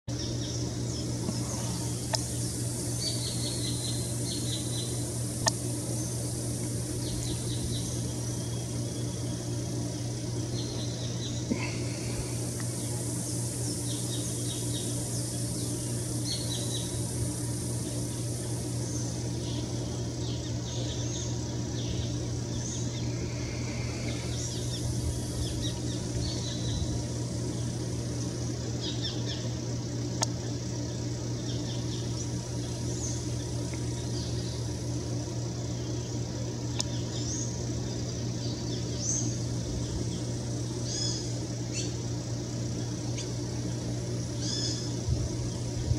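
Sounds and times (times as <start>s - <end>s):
steady low hum: 0.1s - 45.9s.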